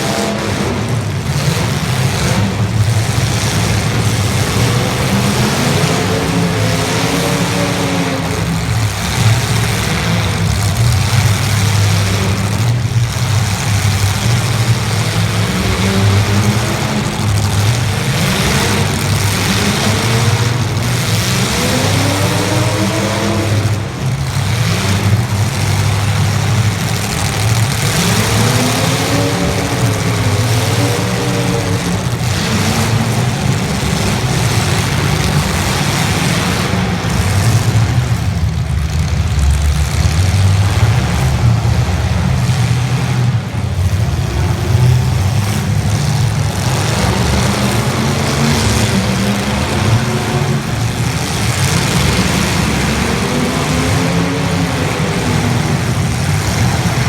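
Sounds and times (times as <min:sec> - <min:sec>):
car engines droning and revving: 0:00.0 - 0:57.0.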